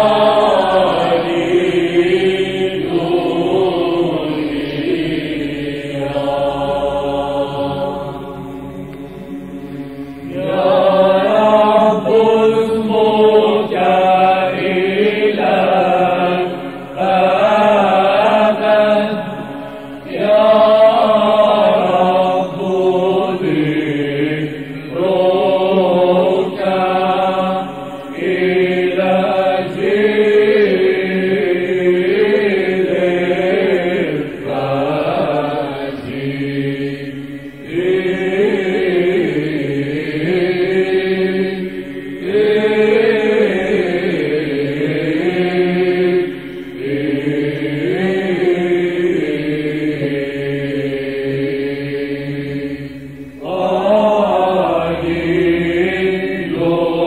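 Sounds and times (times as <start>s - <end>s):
male chanters singing: 0.0s - 57.0s.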